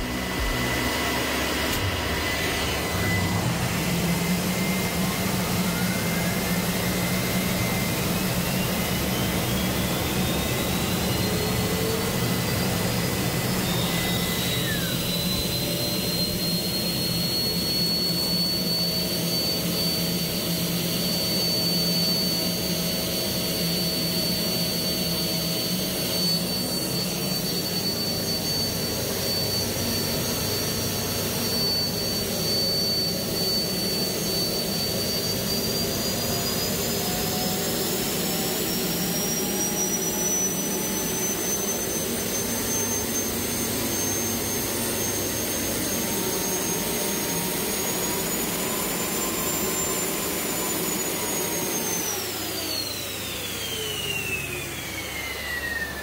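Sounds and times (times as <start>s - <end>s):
jet engine whine and roar: 0.0s - 56.0s.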